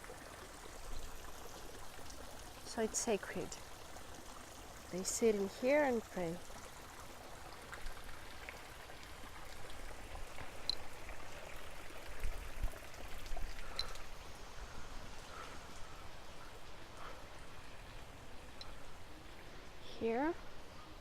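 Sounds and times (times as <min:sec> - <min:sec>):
flowing water hiss: 0:00.0 - 0:21.0.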